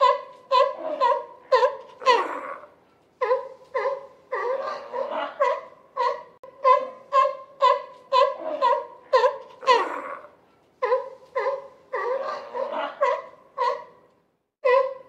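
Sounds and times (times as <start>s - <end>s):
seal pup calling: 0.0s - 14.0s.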